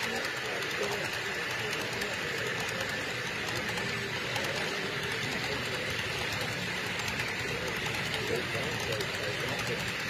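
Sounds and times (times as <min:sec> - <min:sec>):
model train wheels clattering: 0:00.0 - 0:10.0.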